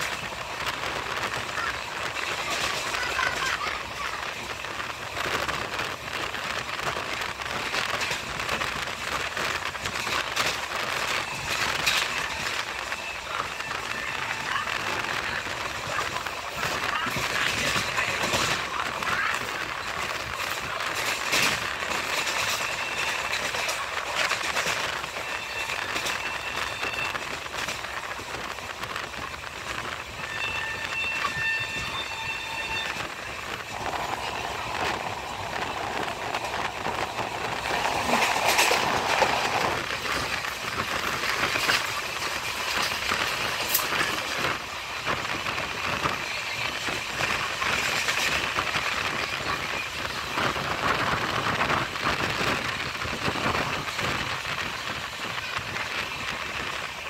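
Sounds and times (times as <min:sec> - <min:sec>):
passing electric train: 0:00.0 - 0:57.0
train wheels on rail: 0:00.0 - 0:57.0
wind: 0:00.0 - 0:57.0.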